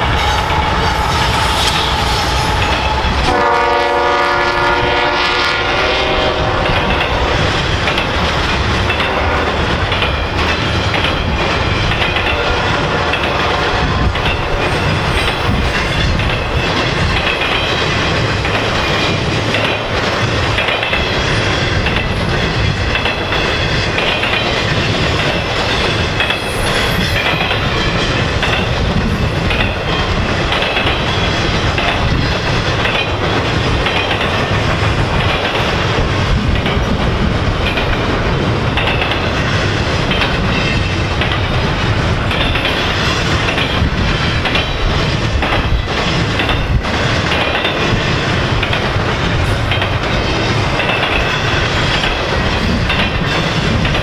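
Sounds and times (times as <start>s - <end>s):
freight train rumble: 0.0s - 54.0s
wheels clacking over rail joints: 6.1s - 54.0s.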